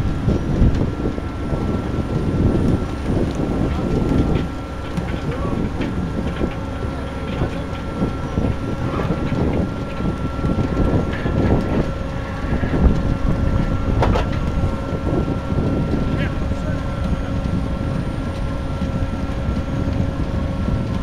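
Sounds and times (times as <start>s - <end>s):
faint whine: 0.0s - 21.0s
machine running: 0.0s - 21.0s.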